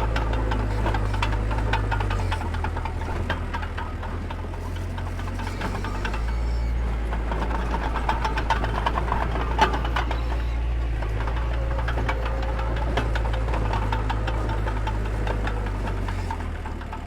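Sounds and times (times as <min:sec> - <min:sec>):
bulldozer diesel engine running: 0:00.0 - 0:17.0
metallic clanks and rattles: 0:00.0 - 0:17.0.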